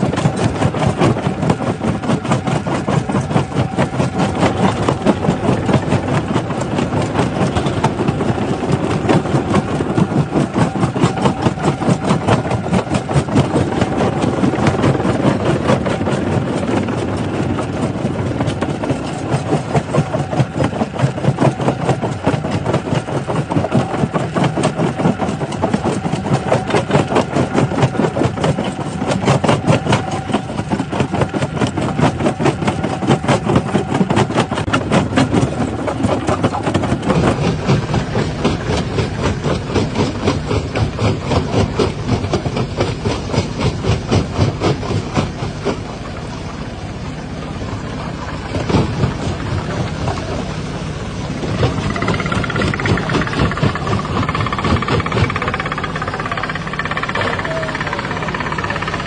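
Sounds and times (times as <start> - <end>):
stone crusher machine drone: 0.0 - 59.0.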